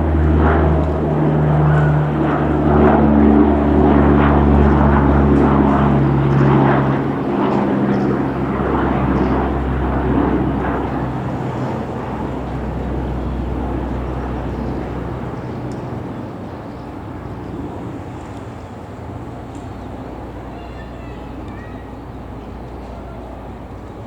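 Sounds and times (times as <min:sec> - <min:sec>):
cargo plane engines droning: 0:00.0 - 0:24.0.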